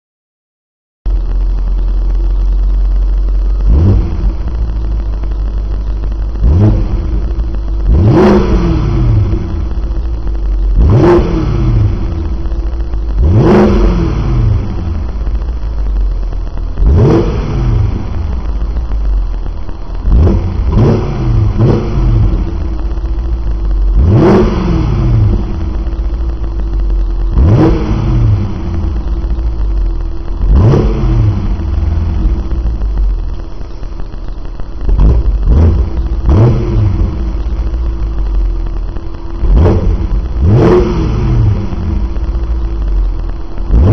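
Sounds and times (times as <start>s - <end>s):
car engine idling and revving: 1.1s - 43.9s.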